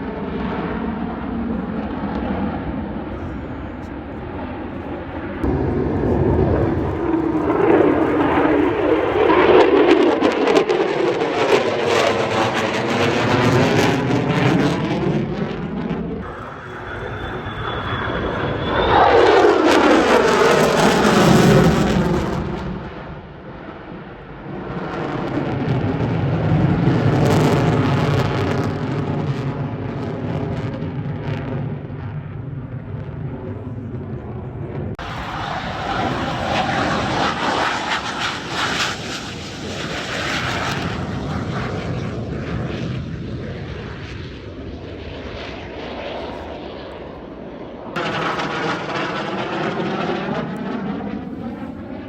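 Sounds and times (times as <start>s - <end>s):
aircraft engine drone: 0.0s - 52.0s
aircraft passing overhead: 0.0s - 52.0s.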